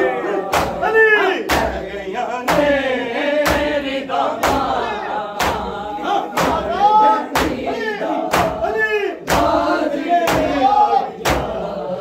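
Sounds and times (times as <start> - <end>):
men beating their chests: 0.0 - 11.8
chanted lament singing: 0.0 - 12.0.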